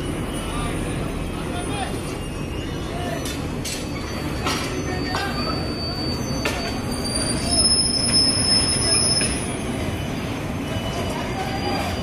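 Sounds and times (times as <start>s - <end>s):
freight train rumbling: 0.0s - 12.0s
high-pitched wheel squeal: 0.0s - 12.0s
train clanks: 0.0s - 12.0s.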